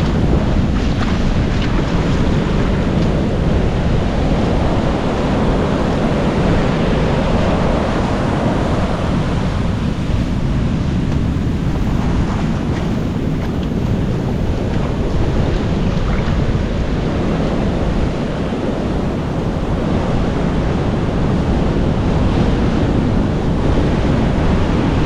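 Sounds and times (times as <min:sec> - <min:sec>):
sea surf washing onto beach: 0:00.0 - 0:25.0
wind buffeting microphone: 0:00.0 - 0:25.0.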